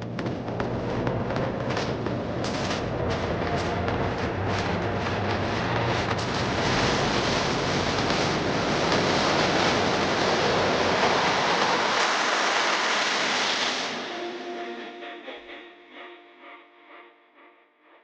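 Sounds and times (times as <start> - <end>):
loud steady rushing noise: 0.0 - 15.1.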